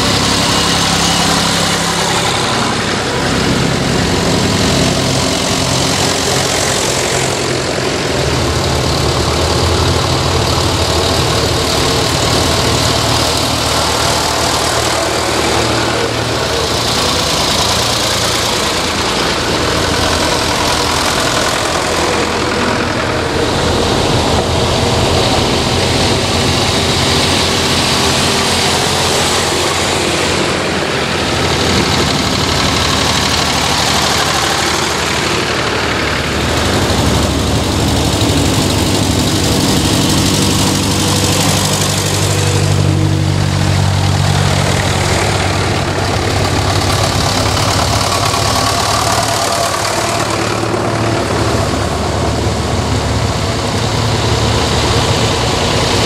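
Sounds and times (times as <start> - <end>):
tractor engines passing: 0.0 - 56.0.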